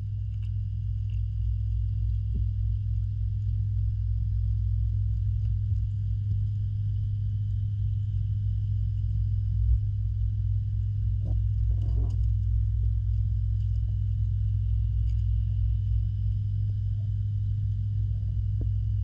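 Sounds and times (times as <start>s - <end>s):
pond pump humming underwater: 0.0s - 19.0s.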